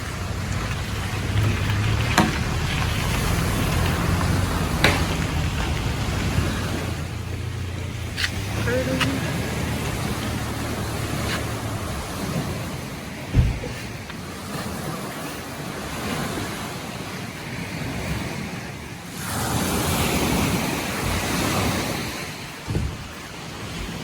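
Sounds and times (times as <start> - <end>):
ocean surf washing onto beach: 0.0 - 24.0
wind on microphone: 0.0 - 24.0.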